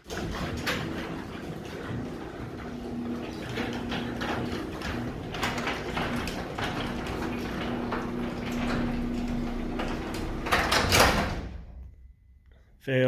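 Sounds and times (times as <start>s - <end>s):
garage door panels rattling: 0.0s - 11.8s
garage door opener motor hum: 0.0s - 12.0s.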